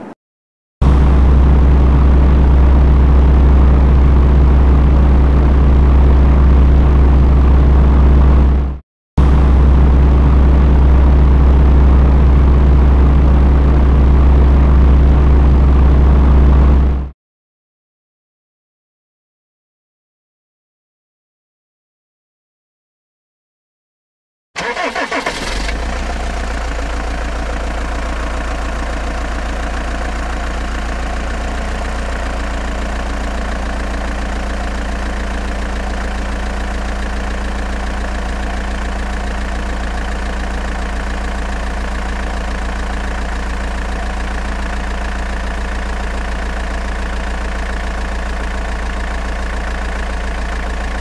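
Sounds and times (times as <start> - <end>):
engine starting and idling: 0.8 - 17.1, 24.6 - 51.0.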